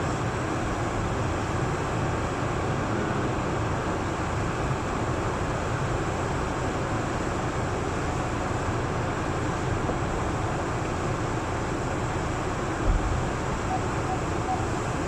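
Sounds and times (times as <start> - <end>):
vehicle rumble and road noise: 0.0 - 15.0.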